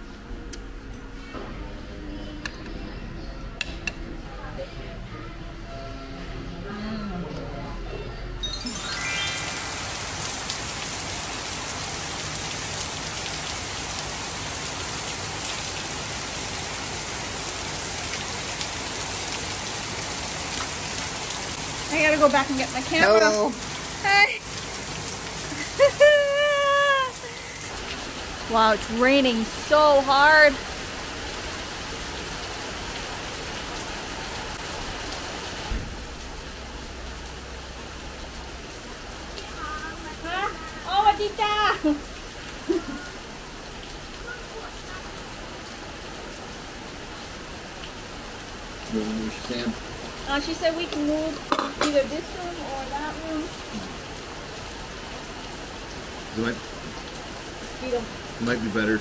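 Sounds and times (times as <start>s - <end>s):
heavy rain falling: 8.4s - 59.0s.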